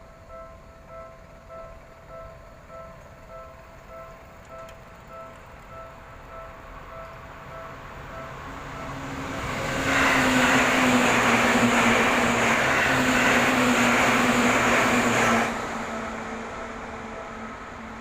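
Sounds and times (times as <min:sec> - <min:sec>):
crossing warning bell: 0:00.0 - 0:18.0
train passing: 0:00.0 - 0:18.0.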